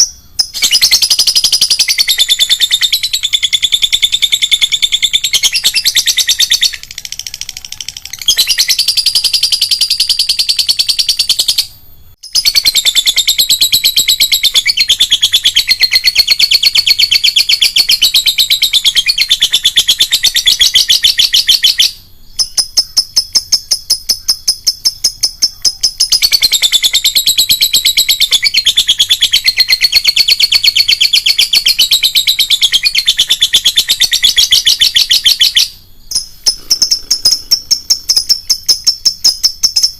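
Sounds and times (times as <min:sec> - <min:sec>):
lovebird shrill chattering song: 0:00.0 - 0:39.9.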